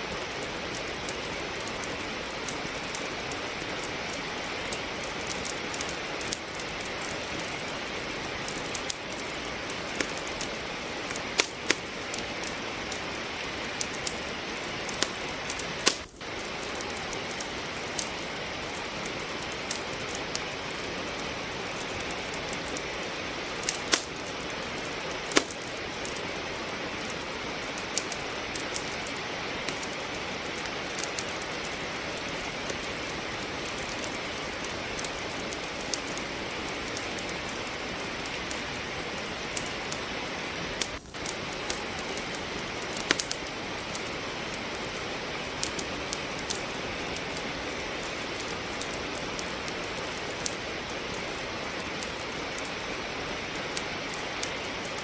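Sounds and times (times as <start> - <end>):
rain hiss: 0.0 - 55.0
wood fire crackling and popping: 0.0 - 55.0.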